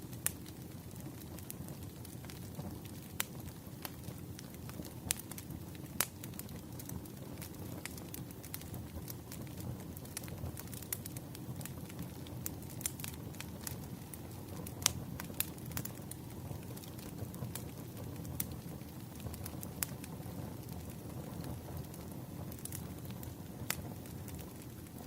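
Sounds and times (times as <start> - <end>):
low rumble of flames: 0.0 - 25.0
wood fire pops and snaps: 0.1 - 25.0.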